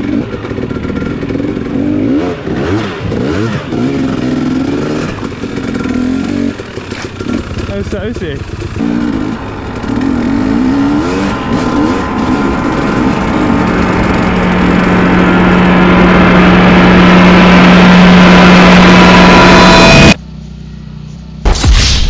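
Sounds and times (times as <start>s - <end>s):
dirt bike engine revving: 0.0s - 21.7s.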